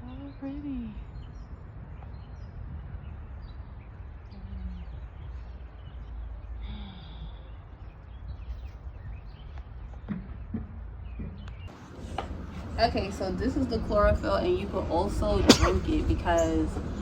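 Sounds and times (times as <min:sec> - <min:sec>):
birds chirping faintly: 0:00.0 - 0:17.0
low rumble: 0:00.0 - 0:17.0.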